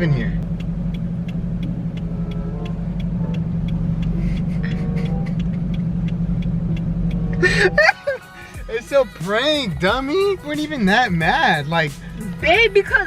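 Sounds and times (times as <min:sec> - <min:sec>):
car cabin drone: 0:00.0 - 0:08.0, 0:09.5 - 0:13.0.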